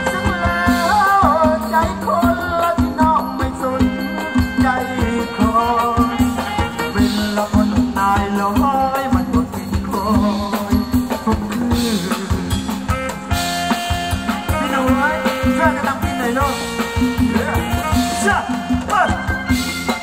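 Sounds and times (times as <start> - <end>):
drum kit beat: 0.0 - 20.0
live band dance music: 0.0 - 20.0
wavering melody line: 0.0 - 20.0.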